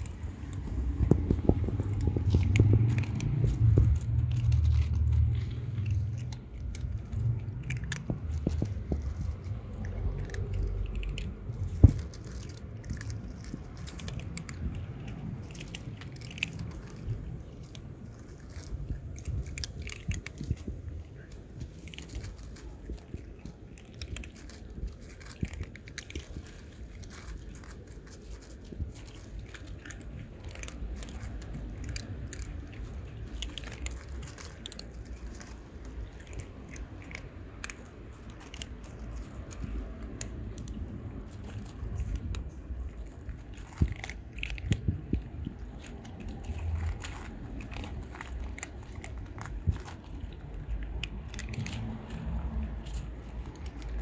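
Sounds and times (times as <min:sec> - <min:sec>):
kittens crunching dry kibble: 0:00.0 - 0:54.0
low steady rumble: 0:00.0 - 0:54.0.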